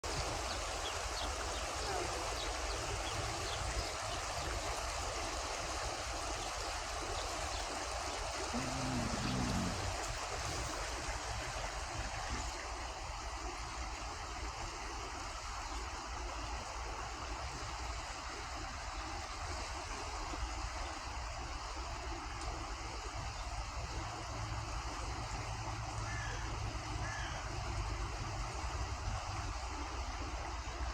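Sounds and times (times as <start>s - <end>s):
river water flowing: 0.0s - 30.9s.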